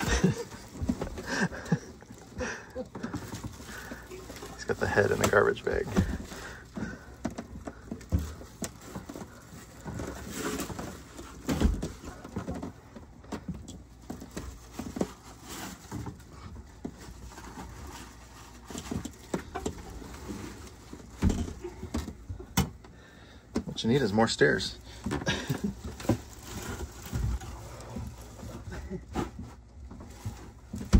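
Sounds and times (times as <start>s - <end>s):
plastic garbage bag rustling: 0.0s - 13.2s, 13.8s - 22.3s, 23.8s - 30.9s.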